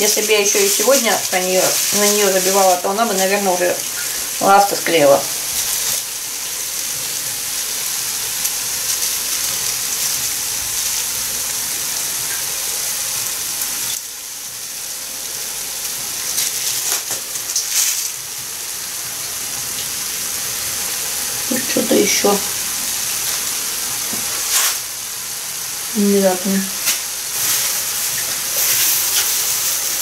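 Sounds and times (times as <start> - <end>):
vegetables sizzling in a frying pan: 0.0 - 30.0.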